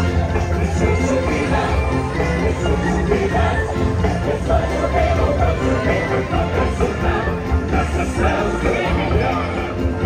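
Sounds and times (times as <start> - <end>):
loud music with strong bass: 0.0 - 10.0.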